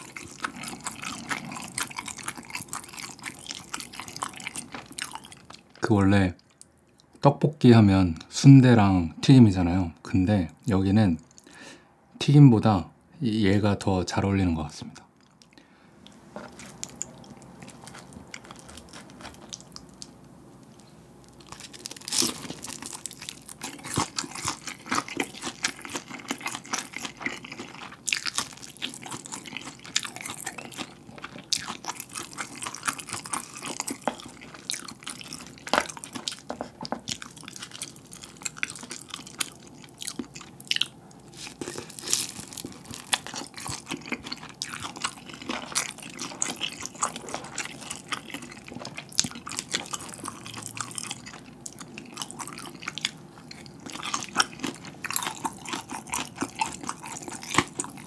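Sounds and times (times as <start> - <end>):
crisp crunching and wet chewing: 0.0 - 7.2, 15.2 - 58.0.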